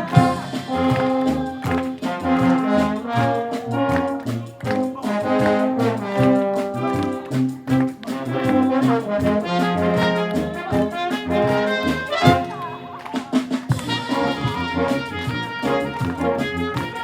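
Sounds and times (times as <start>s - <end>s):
brass playing sustained chords: 0.0s - 13.1s, 13.8s - 17.0s
regular drum beat: 0.0s - 17.0s.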